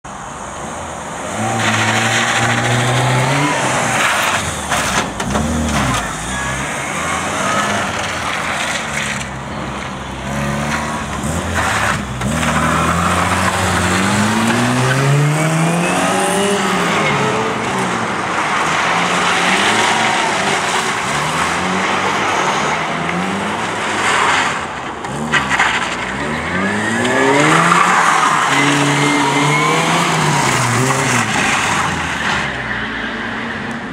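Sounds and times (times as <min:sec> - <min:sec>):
car engine revving: 0:01.2 - 0:32.6.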